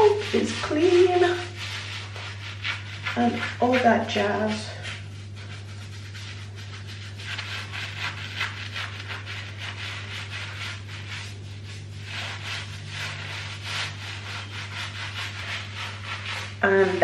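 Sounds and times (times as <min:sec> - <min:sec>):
fingertips scrubbing lathered hair: 0:00.0 - 0:17.0
steady low hum: 0:00.0 - 0:17.0.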